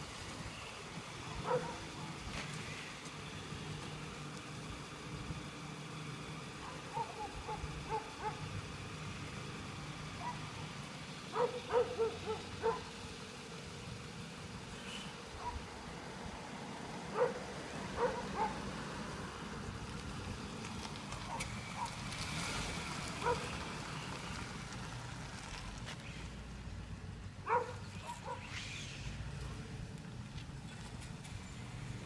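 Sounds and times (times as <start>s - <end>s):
car engine pulling away: 0.0s - 32.0s.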